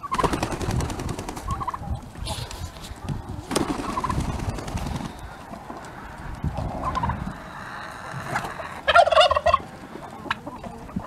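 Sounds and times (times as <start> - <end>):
turkey gobbling: 0.0 - 6.2, 6.8 - 11.0
poultry calls: 0.0 - 11.0.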